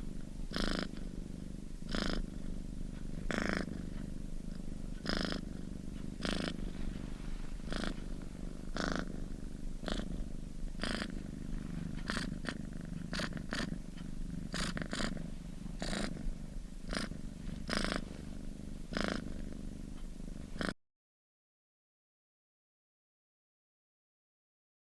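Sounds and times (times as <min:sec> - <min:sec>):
cat purring: 0:00.0 - 0:20.8.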